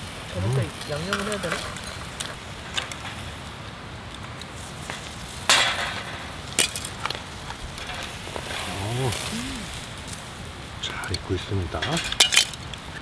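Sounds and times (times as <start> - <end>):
grill sizzling and crackling: 0.0 - 13.0.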